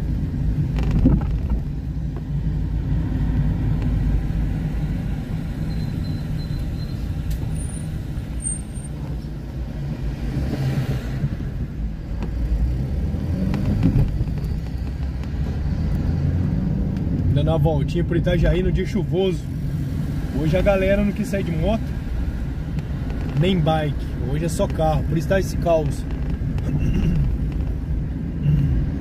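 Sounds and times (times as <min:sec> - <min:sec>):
car interior engine rumble: 0:00.0 - 0:29.0.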